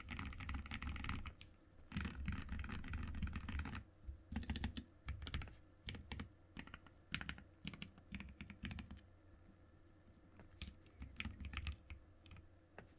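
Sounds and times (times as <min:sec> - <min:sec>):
typing on mechanical keyboard: 0:00.0 - 0:09.0, 0:10.6 - 0:12.4.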